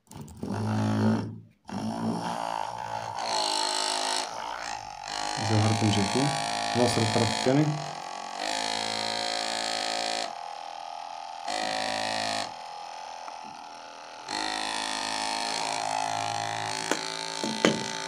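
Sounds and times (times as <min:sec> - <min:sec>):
small motor buzzing drone: 0:00.1 - 0:18.0.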